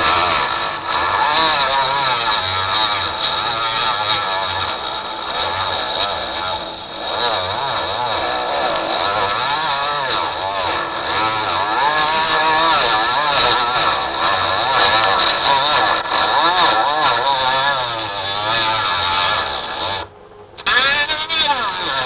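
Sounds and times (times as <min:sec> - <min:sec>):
milling machine cutting wood: 0:00.0 - 0:22.0.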